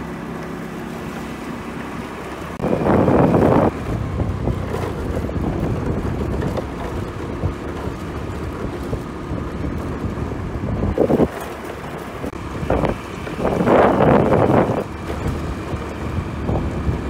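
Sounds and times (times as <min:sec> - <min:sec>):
wind buffeting microphone: 0:02.5 - 0:17.0.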